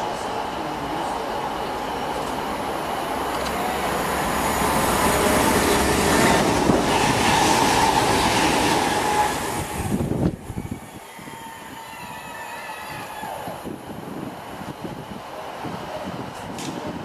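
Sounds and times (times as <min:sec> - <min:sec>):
diesel train passing at speed: 0:00.0 - 0:17.0.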